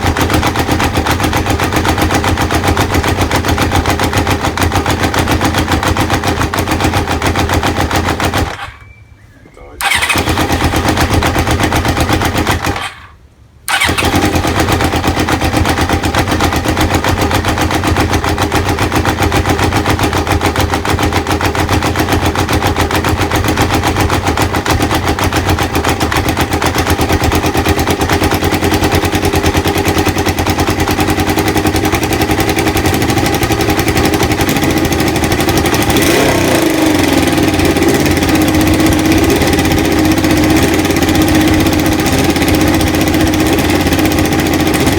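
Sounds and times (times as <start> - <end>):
motorcycle engine running: 0.0 - 9.0, 9.8 - 44.9.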